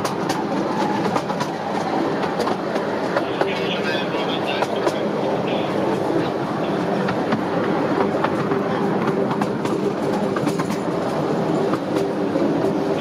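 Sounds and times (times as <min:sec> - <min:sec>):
steady engine hum: 0:00.0 - 0:13.0
train wheels clicking over rail joints: 0:00.0 - 0:13.0.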